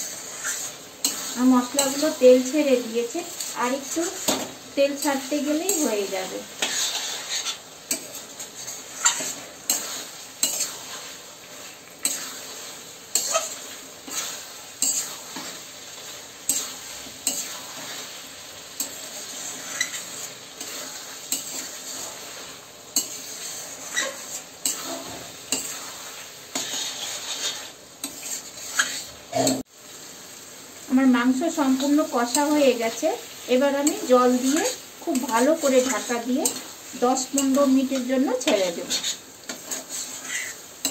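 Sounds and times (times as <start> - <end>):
metal spatula scraping pan: 0.0 - 18.2, 18.8 - 29.6, 33.8 - 40.9
meat sizzling in oil: 0.0 - 40.9.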